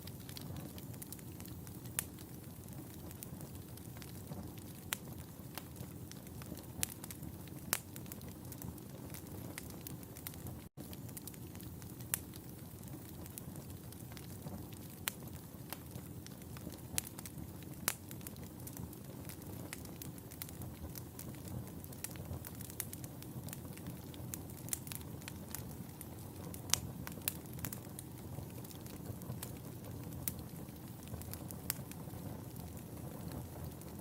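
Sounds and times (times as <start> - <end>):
fireplace fire crackling: 0.0 - 34.0.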